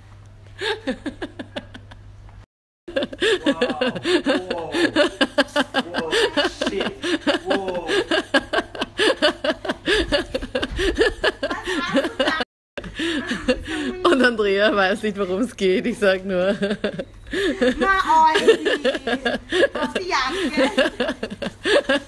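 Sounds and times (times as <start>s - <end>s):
woman giggling: 0.6s - 2.0s, 2.9s - 14.4s, 16.4s - 22.0s.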